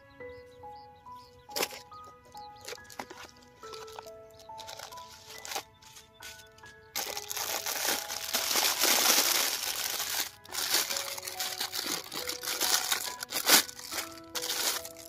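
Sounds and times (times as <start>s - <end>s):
sharp plastic crackle: 1.5s - 15.0s
plastic bag crinkling: 1.6s - 1.9s, 2.6s - 6.4s, 7.0s - 15.0s.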